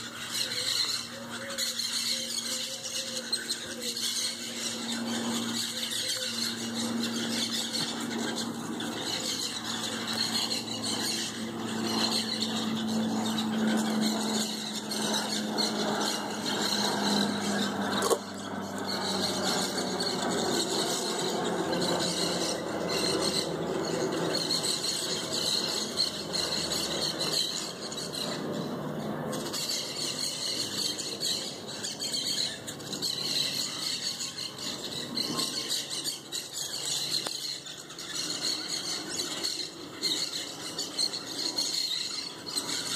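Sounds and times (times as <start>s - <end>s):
parrots squawking: 0.0s - 42.9s.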